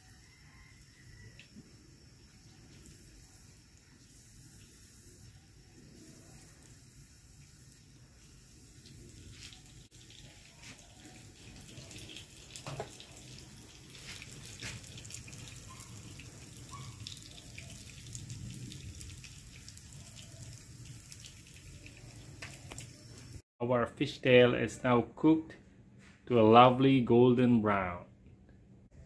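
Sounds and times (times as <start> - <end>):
fish frying in hot oil: 0.1 - 23.4.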